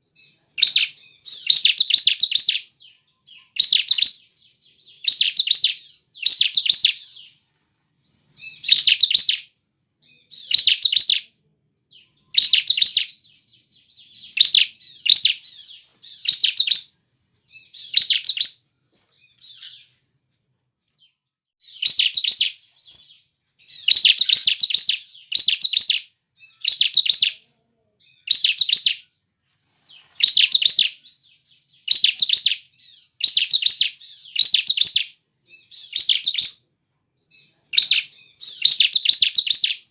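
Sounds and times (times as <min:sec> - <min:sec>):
bird singing trilled phrases: 0:00.0 - 0:07.4, 0:08.1 - 0:36.6, 0:37.2 - 0:39.9.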